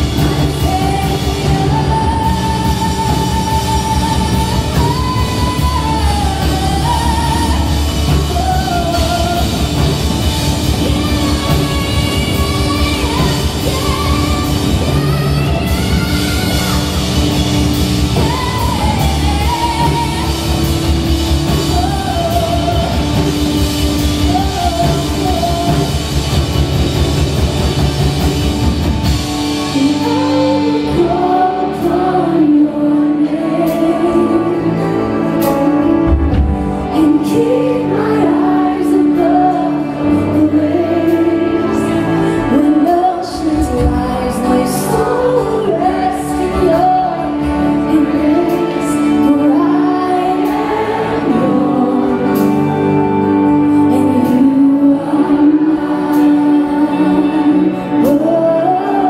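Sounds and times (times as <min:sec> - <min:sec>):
live worship band playing: 0:00.0 - 0:59.0
woman singing lead: 0:00.0 - 0:59.0.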